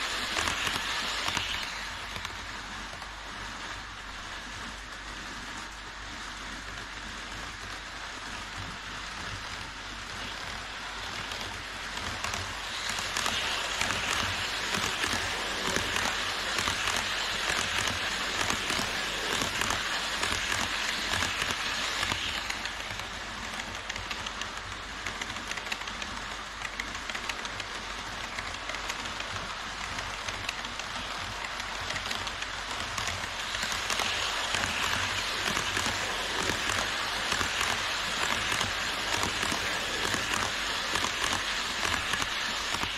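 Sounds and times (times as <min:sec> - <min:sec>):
model train wheels clattering: 0:00.0 - 0:42.9.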